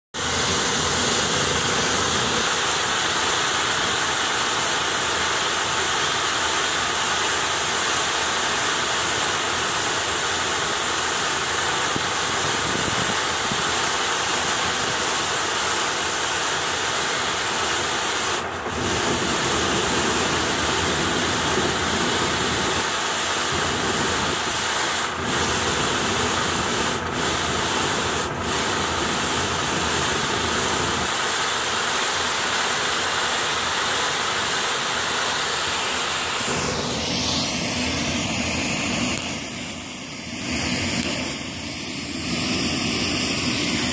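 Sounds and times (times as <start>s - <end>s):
road sweeper engine running: 0.0s - 43.9s
rotating brush scrubbing pavement: 0.1s - 43.9s.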